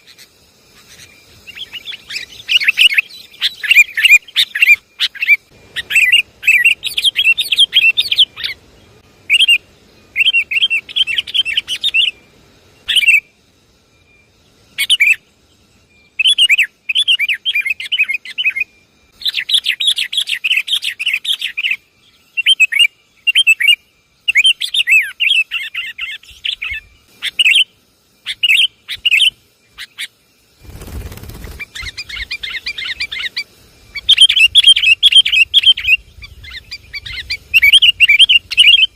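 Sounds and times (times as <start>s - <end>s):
birds chattering calls: 0.0s - 13.4s, 14.1s - 38.9s.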